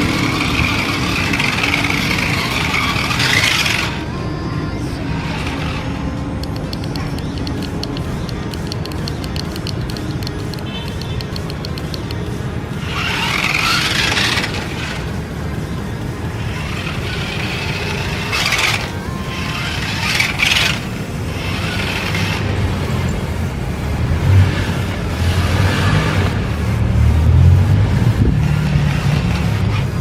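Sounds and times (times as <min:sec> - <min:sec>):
toy car electric motor whirring: 0:00.0 - 0:30.0.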